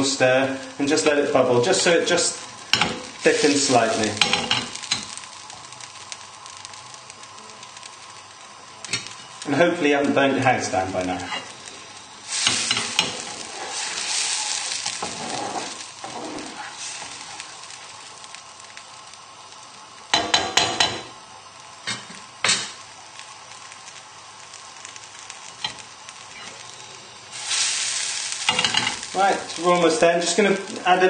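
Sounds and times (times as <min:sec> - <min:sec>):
sauce bubbling and sizzling in a pan: 0:00.0 - 0:31.0.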